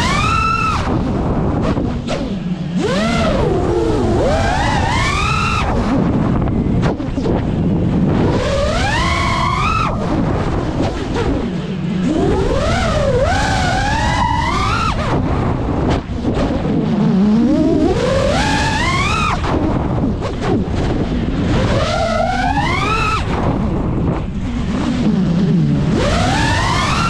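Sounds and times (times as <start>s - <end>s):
drone motors whining: 0.0s - 27.0s
wind rush on microphone: 0.0s - 27.0s.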